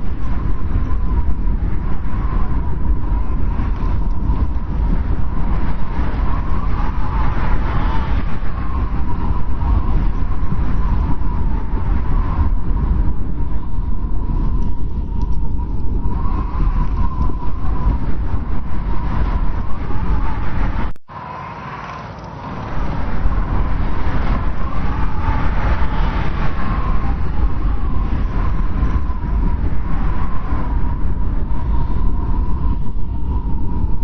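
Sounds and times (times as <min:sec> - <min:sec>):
strong wind whistling: 0:00.0 - 0:34.0.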